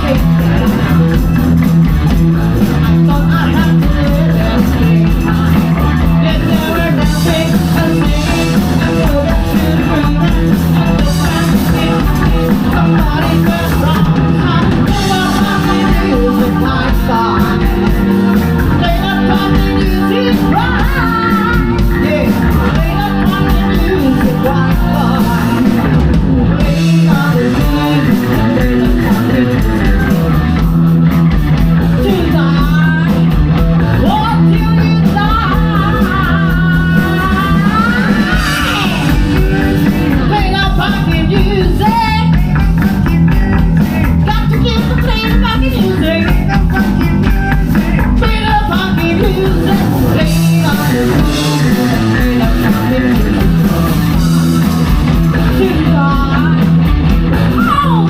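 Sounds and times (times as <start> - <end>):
person singing: 0.0 - 30.7, 31.6 - 58.0
bass guitar: 0.0 - 58.0
drum kit: 0.0 - 58.0
electric guitar: 0.0 - 58.0.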